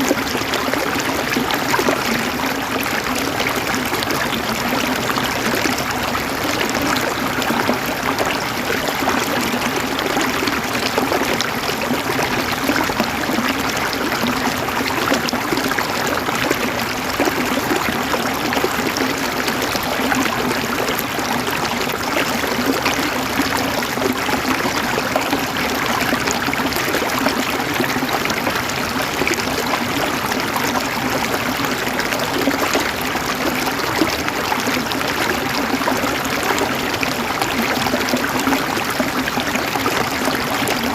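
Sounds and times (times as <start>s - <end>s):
water flowing: 0.0s - 40.9s.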